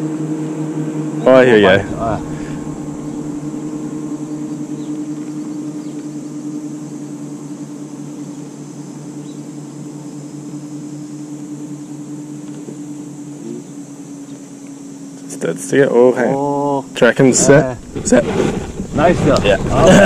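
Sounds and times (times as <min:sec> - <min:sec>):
electric trolling motor hum: 0:00.0 - 0:20.0.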